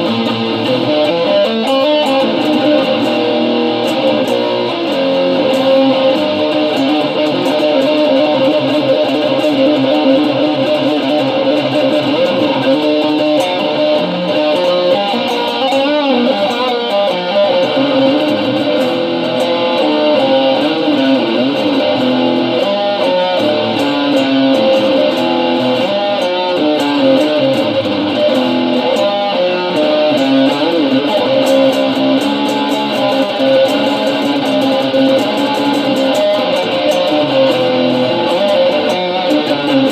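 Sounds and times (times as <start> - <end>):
guitar playing: 0.0 - 39.9.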